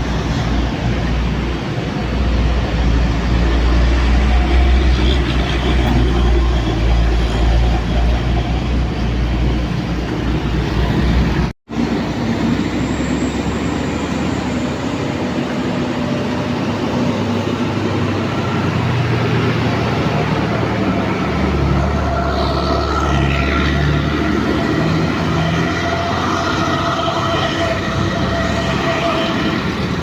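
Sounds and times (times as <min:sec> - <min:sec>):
heavy vehicle engines labouring: 0:00.0 - 0:30.0
traffic noise: 0:00.0 - 0:30.0.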